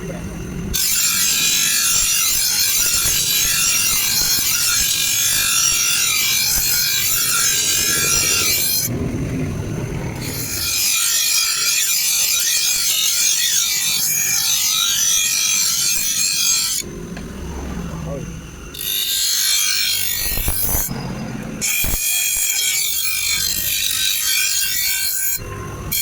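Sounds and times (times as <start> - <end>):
blade grinding on sharpener: 0.7 - 8.9, 10.2 - 16.9, 18.7 - 26.0.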